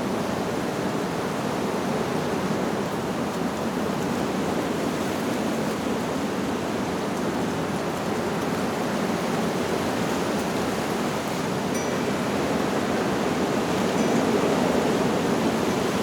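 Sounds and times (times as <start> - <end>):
wind blowing through leaves: 0.0 - 16.0.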